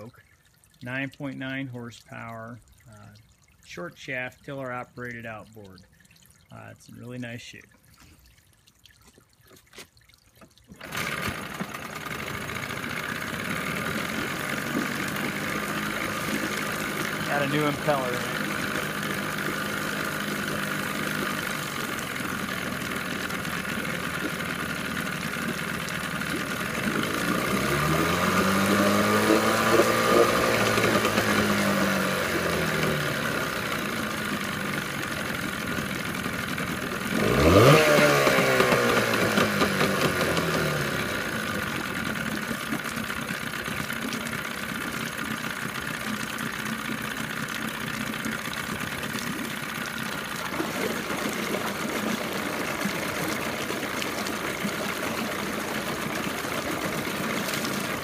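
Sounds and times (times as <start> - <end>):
outboard motor revving and idling: 10.7 - 58.0.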